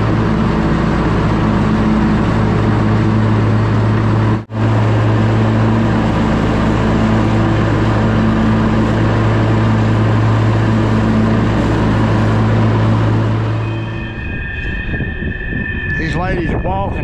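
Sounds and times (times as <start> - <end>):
riding mower engine running: 0.0 - 14.8.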